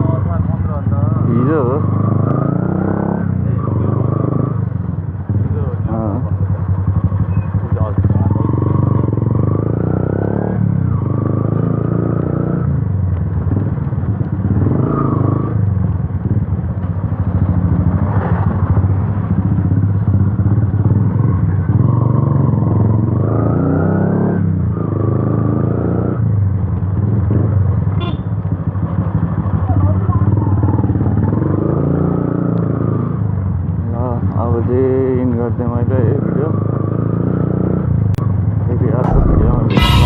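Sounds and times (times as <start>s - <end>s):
motorcycle engine revving: 0.0s - 33.4s, 38.9s - 40.0s.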